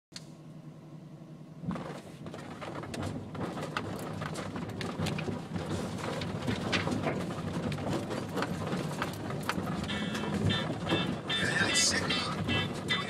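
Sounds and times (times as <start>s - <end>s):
vehicle engine hum: 0.1s - 13.0s
knocks and rattles: 1.6s - 13.0s
tyres crunching over gravel: 1.7s - 13.0s.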